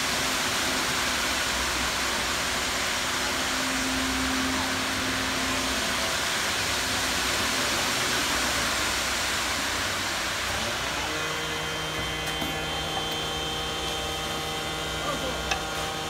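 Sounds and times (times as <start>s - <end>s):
concrete mixer truck running: 0.0s - 16.0s.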